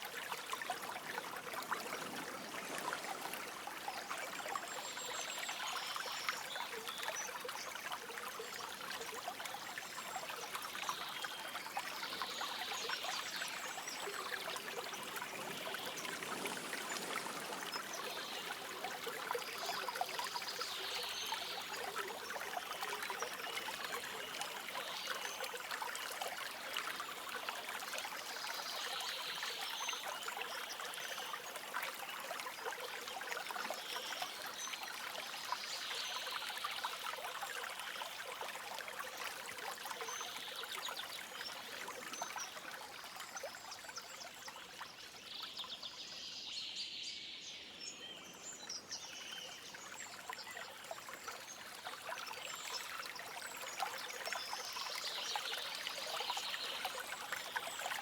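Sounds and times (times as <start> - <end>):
stream babbling over stones: 0.0 - 45.8, 47.8 - 58.0.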